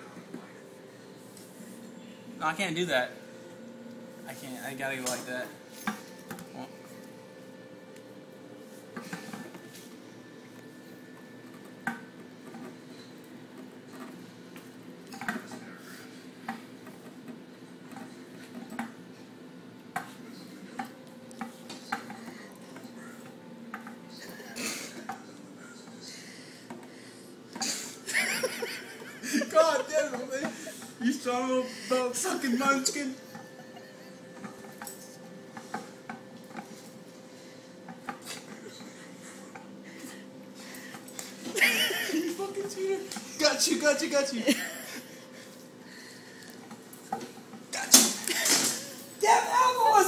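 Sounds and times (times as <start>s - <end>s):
steady electrical hum: 0.0s - 50.0s.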